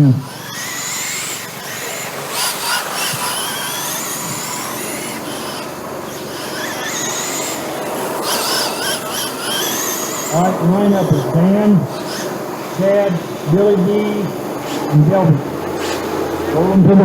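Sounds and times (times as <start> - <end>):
rc truck motors whining: 0.0 - 17.0
tire and track noise: 0.0 - 17.0.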